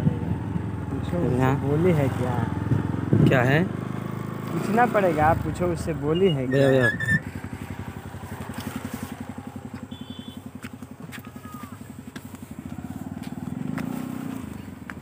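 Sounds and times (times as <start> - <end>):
small motorcycle engine idling: 0.0 - 15.0.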